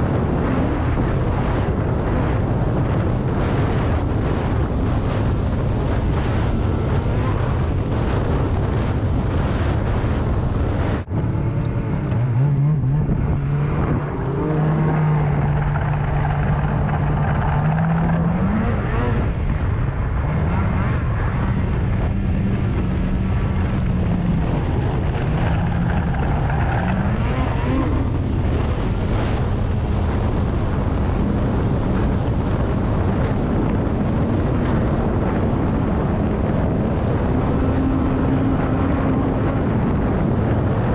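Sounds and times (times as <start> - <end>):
snowmobile engine revving: 0.0 - 40.9
wind noise on microphone: 0.0 - 40.9.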